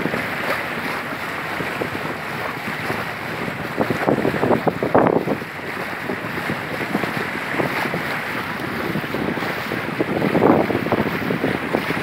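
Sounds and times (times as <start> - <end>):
sea water rushing and splashing: 0.0 - 12.0
wind buffeting microphone: 0.0 - 12.0.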